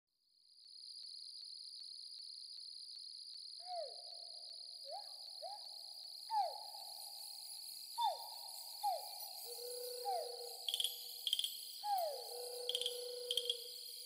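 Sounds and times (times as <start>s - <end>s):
high insect-like chirring: 1.4s - 14.0s.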